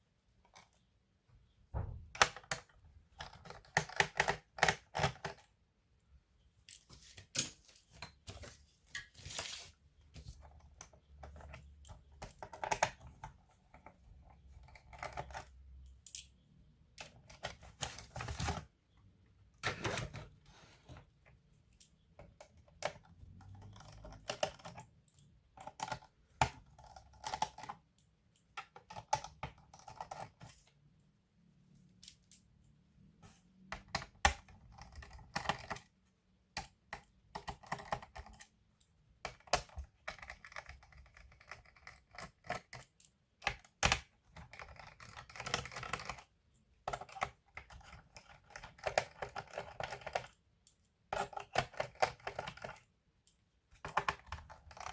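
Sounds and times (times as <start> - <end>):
laptop parts clicking and scraping: 2.2 - 5.5, 6.6 - 18.7, 19.6 - 30.8, 33.2 - 36.0, 39.2 - 54.9.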